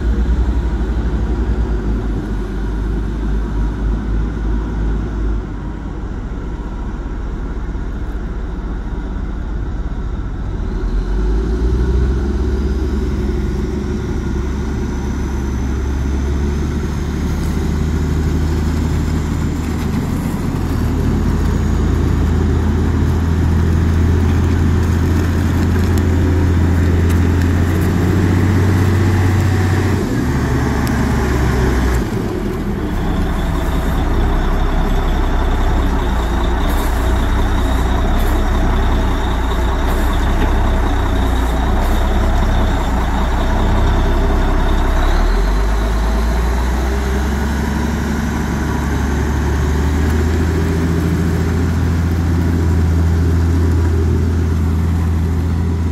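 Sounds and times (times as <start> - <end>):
wheel loader diesel engine: 0.0 - 55.9.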